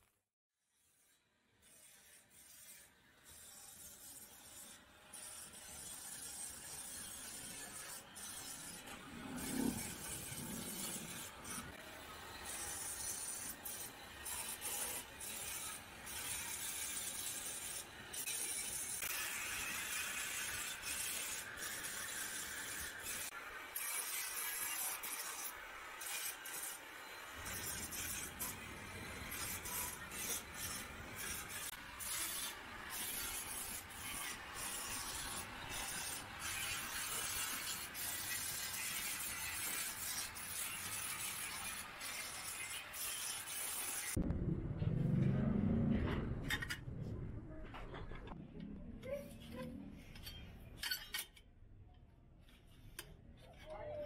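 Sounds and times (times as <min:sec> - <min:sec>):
angle grinder rasping on metal: 0:00.7 - 0:44.2.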